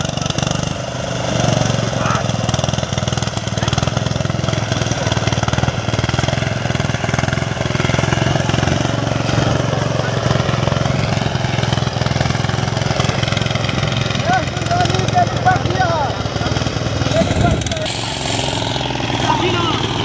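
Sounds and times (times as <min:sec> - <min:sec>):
farm machine engine running: 0:00.0 - 0:20.0.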